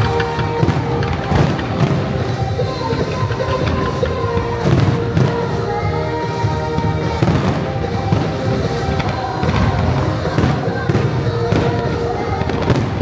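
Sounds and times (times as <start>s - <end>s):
fireworks bursting: 0.0s - 13.0s
music with held tones: 0.0s - 13.0s.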